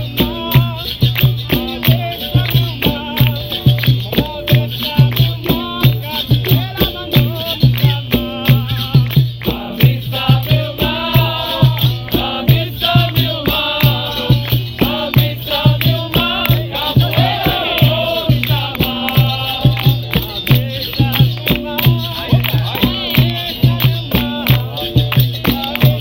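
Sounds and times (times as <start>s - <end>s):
percussion: 0.0s - 26.0s
voices singing: 0.0s - 26.0s.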